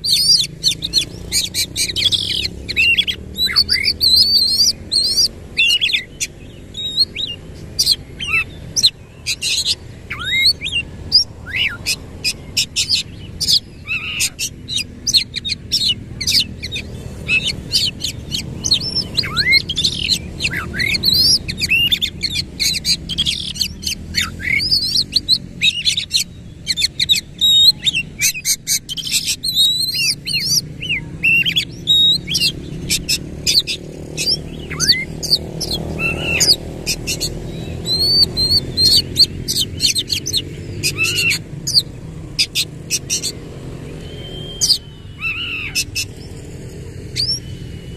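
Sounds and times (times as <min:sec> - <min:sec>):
bird singing whistles and clicks: 0:00.0 - 0:46.4, 0:47.1 - 0:47.8.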